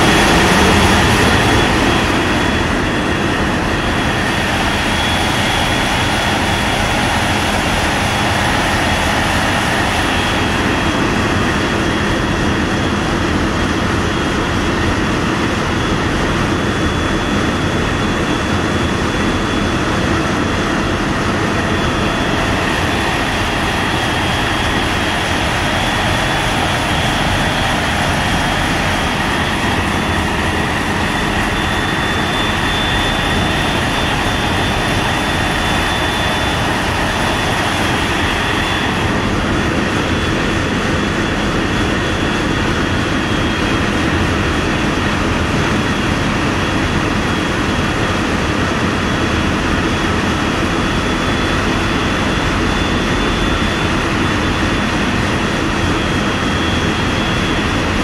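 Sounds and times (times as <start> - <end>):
ship engine droning: 0.0 - 58.0.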